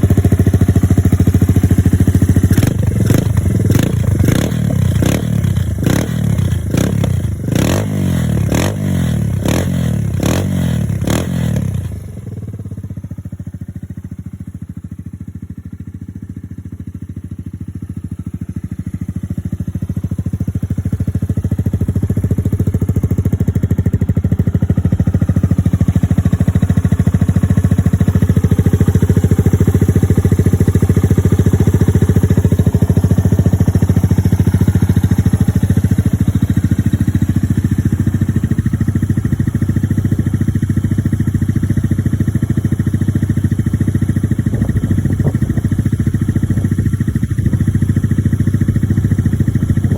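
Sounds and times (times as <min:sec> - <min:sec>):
motorcycle engine revving and idling: 0:00.0 - 0:49.9.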